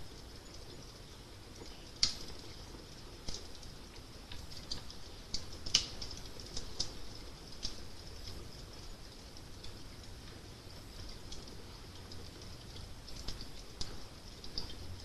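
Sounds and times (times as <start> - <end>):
wood fire snaps and pops: 0.0 - 15.0.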